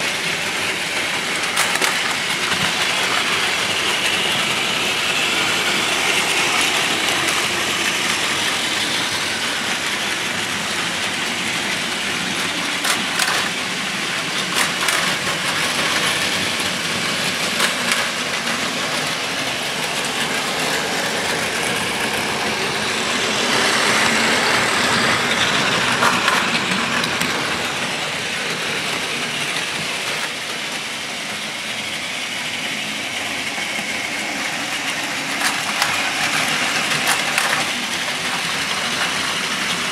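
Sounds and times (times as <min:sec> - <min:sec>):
toy train motors whining: 0:00.0 - 0:39.9
wheel rattle on plastic track: 0:00.0 - 0:39.9.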